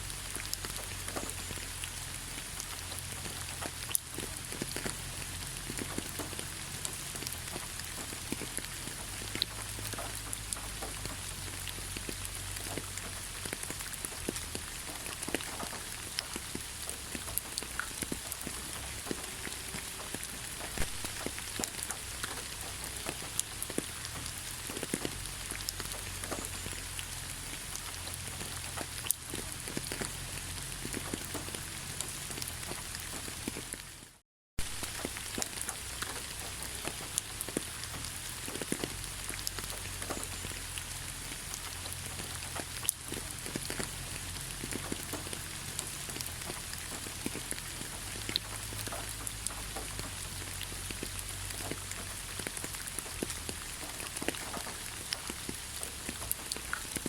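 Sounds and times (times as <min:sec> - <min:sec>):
raindrops pattering on surface: 0:00.0 - 0:57.0.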